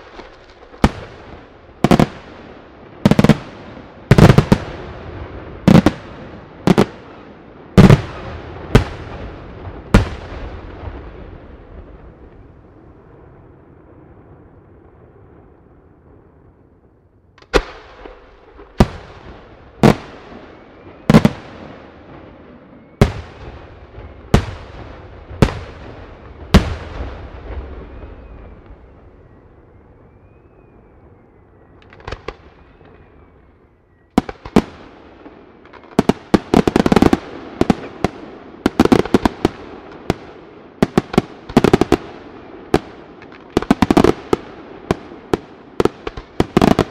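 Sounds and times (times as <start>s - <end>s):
fireworks bangs and crackling: 0.0s - 16.7s, 17.4s - 46.9s.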